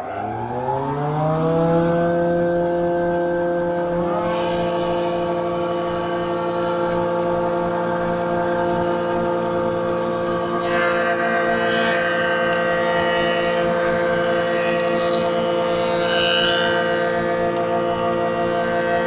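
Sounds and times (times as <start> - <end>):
jointer machine whine: 0.0 - 19.0.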